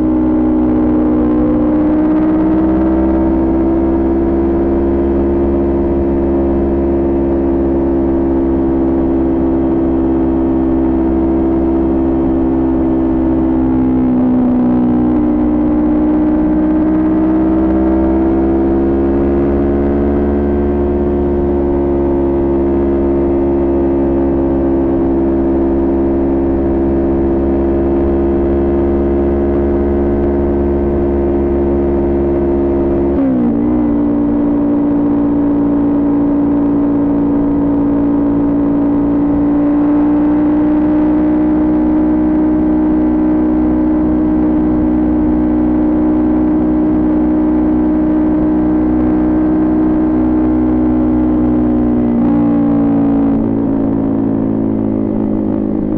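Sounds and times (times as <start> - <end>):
motorcycle engine cruising: 0.0 - 55.9.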